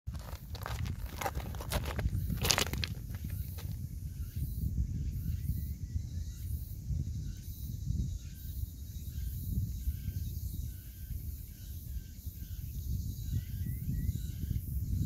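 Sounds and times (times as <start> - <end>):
insects chirring: 0.1 - 15.0
wind rumbling on microphone: 0.1 - 15.0.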